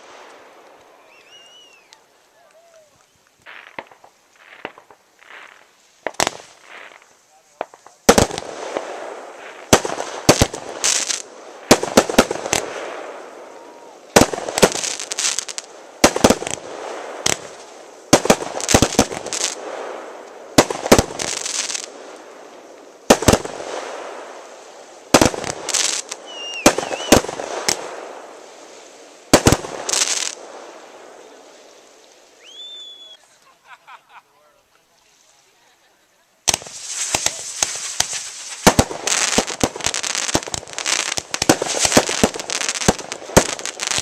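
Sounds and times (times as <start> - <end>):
firework crackling: 0.0 - 44.0
firework bangs: 2.7 - 33.2, 36.4 - 44.0.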